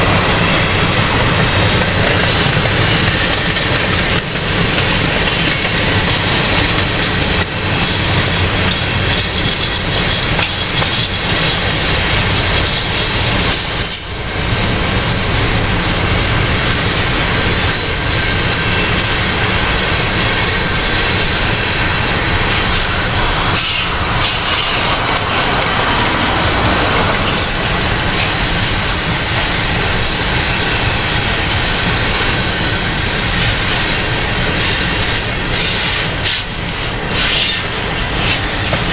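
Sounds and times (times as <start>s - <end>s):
freight train wheels rumbling and clicking: 0.0s - 38.9s
wind buffeting microphone: 0.0s - 38.9s.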